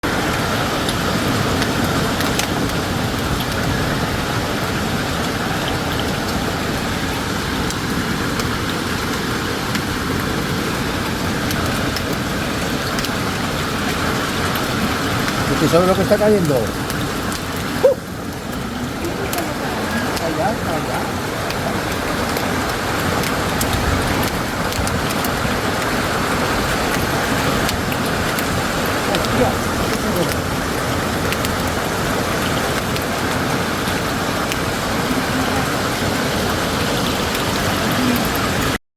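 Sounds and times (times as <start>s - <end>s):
heavy rain pouring: 0.0s - 38.8s
raindrops ticking: 0.0s - 38.8s.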